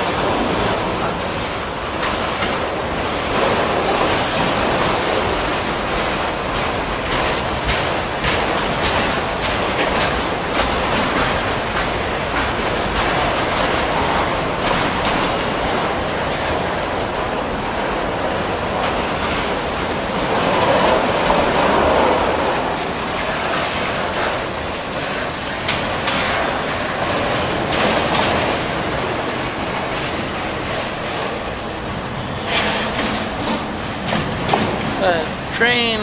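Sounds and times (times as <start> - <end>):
freight train rattling past: 0.0 - 36.0
wheel clacks over rail joints: 0.0 - 36.0.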